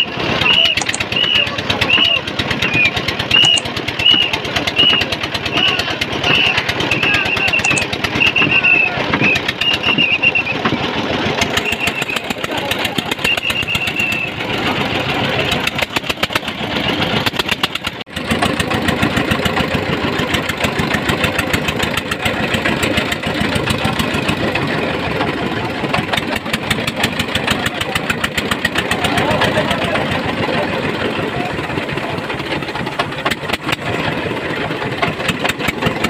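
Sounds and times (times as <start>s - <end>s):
boat engine knocking: 0.0s - 36.0s.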